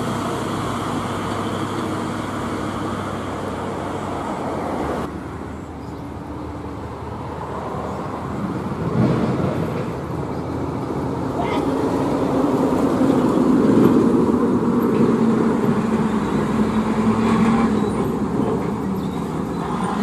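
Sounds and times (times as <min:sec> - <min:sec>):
diesel truck engines: 0:00.0 - 0:20.0
tyre noise on highway: 0:00.0 - 0:20.0.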